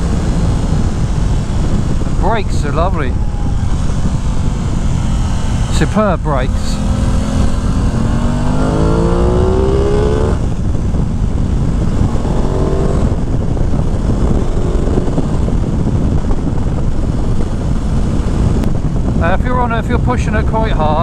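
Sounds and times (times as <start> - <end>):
motorcycle engine accelerating: 0.0 - 19.3
wind and road noise: 0.0 - 21.0.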